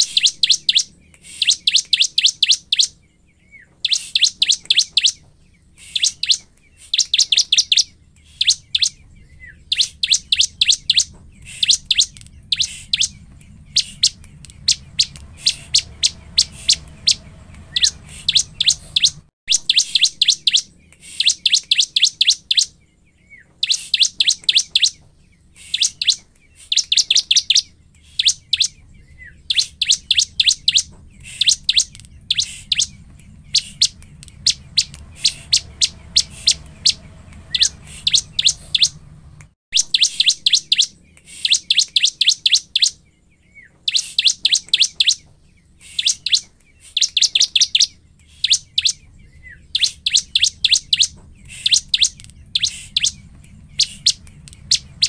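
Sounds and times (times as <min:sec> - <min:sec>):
bird singing sharp high chirps: 0:00.0 - 0:55.0.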